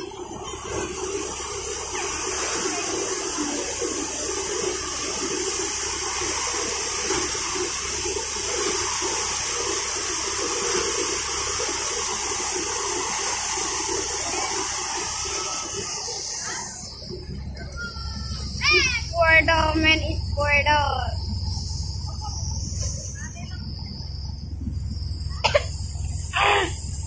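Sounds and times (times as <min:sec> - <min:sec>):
thresher running: 0:00.0 - 0:27.0.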